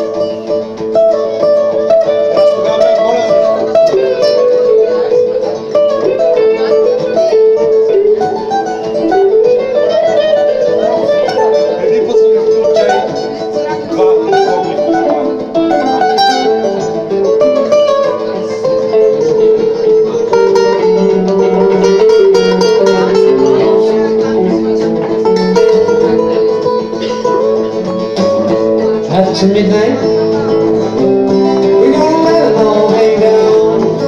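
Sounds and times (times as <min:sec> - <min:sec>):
acoustic guitars playing blues: 0:00.0 - 0:34.0.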